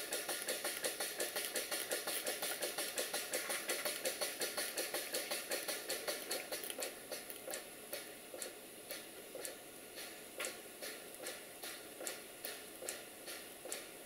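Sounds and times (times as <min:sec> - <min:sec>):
steam engine beating: 0:00.0 - 0:07.3, 0:08.0 - 0:14.0.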